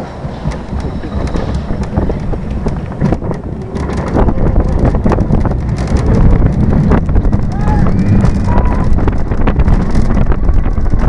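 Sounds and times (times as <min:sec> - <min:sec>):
roller coaster wheels rumbling on rails: 0:00.0 - 0:11.0
wind buffeting microphone: 0:00.0 - 0:11.0.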